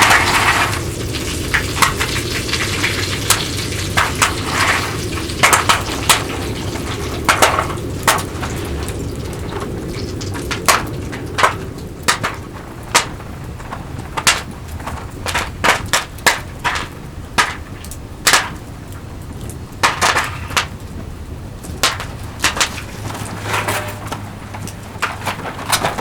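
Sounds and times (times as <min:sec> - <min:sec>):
low rush of burning: 0:00.0 - 0:19.8, 0:20.4 - 0:26.0
campfire crackling and popping: 0:00.0 - 0:26.0.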